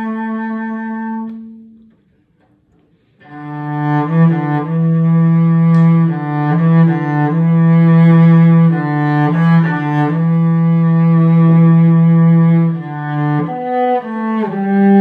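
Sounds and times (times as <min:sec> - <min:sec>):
solo cello melody: 0:00.0 - 0:02.3, 0:03.0 - 0:15.0.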